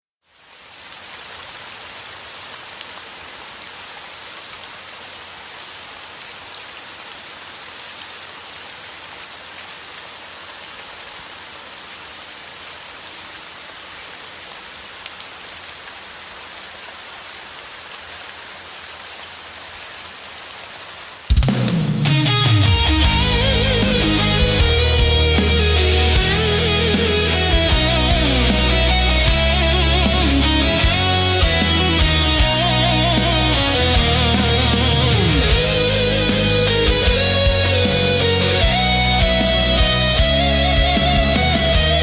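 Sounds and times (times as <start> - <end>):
steady rain hiss: 0.1 - 42.0.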